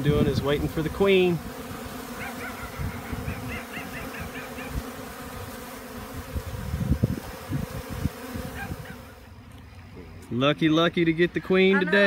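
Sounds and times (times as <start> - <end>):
bees buzzing: 0.0 - 10.2.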